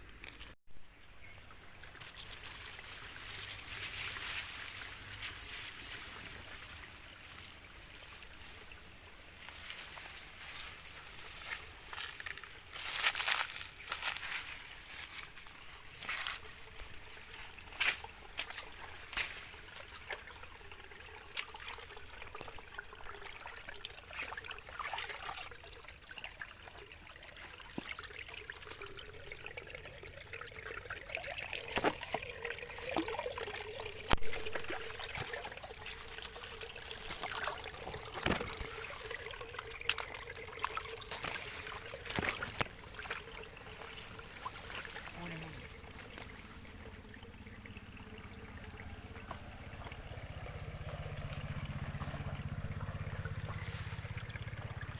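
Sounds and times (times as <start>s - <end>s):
water trickling and splashing: 0.1s - 54.9s.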